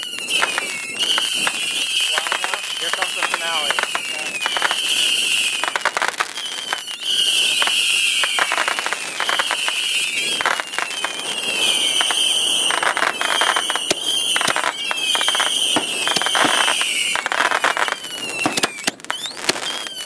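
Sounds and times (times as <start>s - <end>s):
firework cracks and bangs: 0.0s - 20.0s
whistling fireworks: 0.0s - 20.0s.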